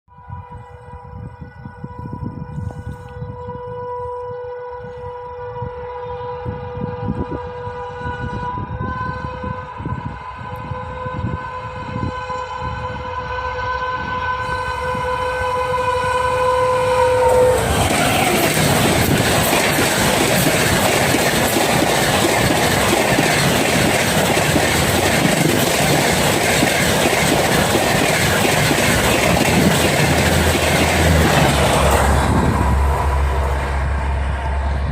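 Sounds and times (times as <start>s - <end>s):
locomotive horn blast: 0.1s - 34.9s
train passing with track clatter: 0.3s - 34.9s.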